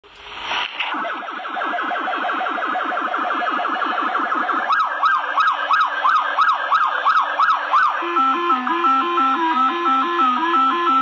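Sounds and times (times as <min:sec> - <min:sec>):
siren-like electronic wail: 0:00.9 - 0:11.0.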